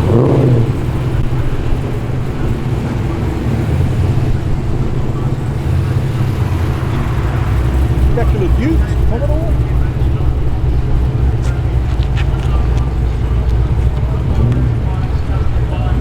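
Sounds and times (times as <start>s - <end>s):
car engine rumbling at low revs: 0.0s - 16.0s.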